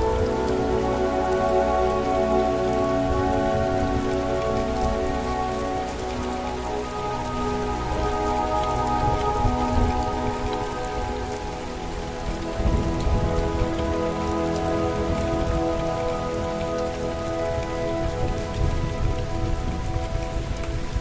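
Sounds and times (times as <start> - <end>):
faint reverberant ambient music: 0.0 - 21.0
steady rainfall: 0.0 - 21.0.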